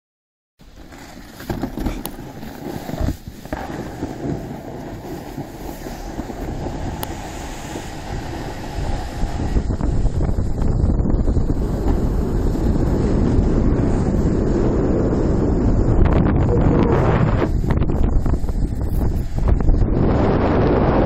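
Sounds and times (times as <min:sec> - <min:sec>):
tube rushing over snow: 0:00.6 - 0:21.0
wind on microphone: 0:01.5 - 0:21.0.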